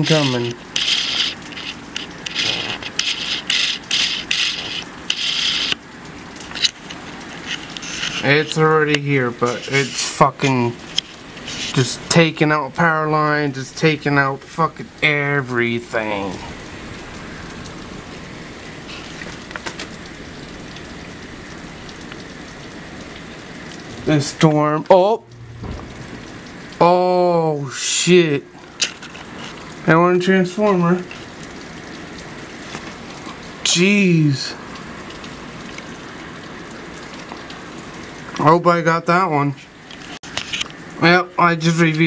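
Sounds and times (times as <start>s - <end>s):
hurricane wind: 0.0s - 38.6s
rain: 0.0s - 42.0s.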